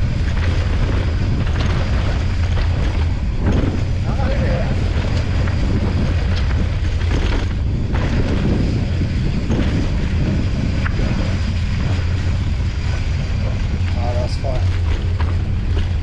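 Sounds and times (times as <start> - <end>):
tyres rumbling on dirt trail: 0.0 - 16.0
wind buffeting microphone: 0.0 - 16.0.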